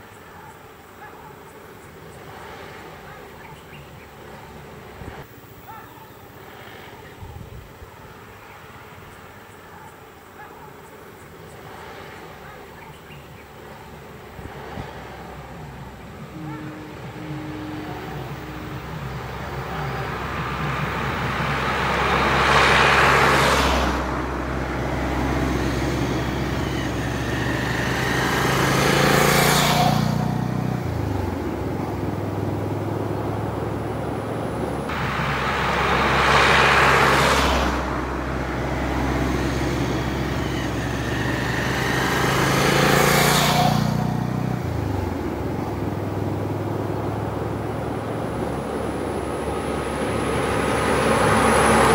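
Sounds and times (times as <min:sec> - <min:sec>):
engines idling: 0:00.0 - 0:07.1, 0:07.8 - 0:51.9
traffic passing: 0:00.0 - 0:51.9.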